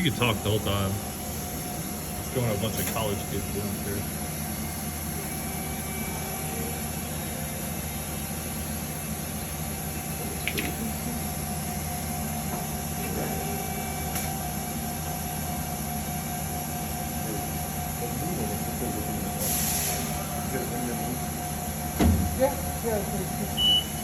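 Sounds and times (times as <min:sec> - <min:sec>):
faint steady whine: 0:00.0 - 0:24.0
machine hum: 0:00.0 - 0:24.0.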